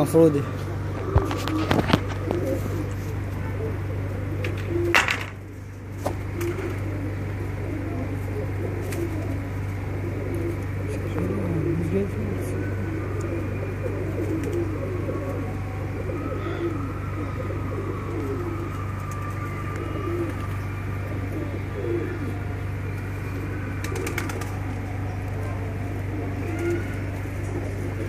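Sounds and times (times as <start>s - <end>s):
pigeons cooing: 0.0s - 28.0s
steady low hum: 0.0s - 28.0s.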